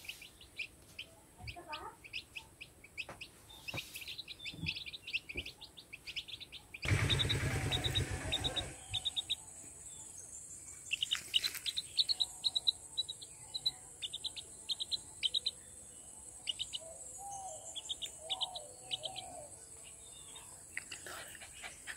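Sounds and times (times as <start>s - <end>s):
chicks peeping: 0.0s - 21.9s.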